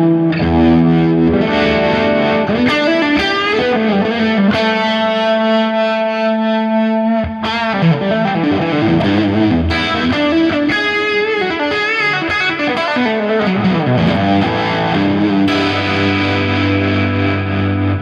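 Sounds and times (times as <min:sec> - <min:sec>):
overdriven electric guitar lead: 0:00.0 - 0:18.0.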